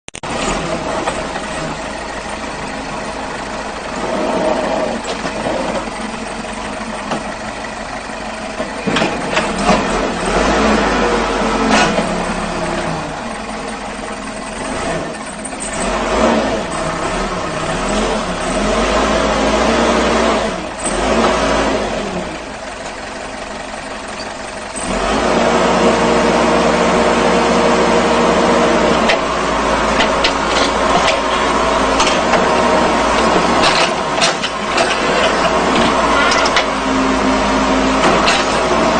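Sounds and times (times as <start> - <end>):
construction machine engine running: 0.1 - 38.9.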